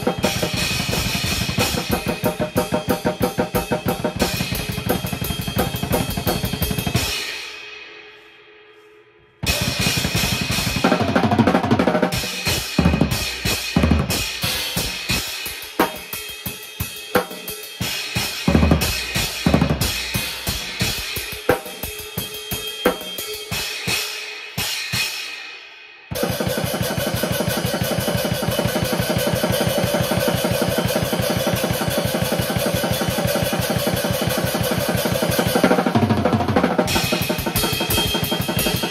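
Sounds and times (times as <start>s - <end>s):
drum kit played hard: 0.0s - 8.1s, 9.4s - 38.9s.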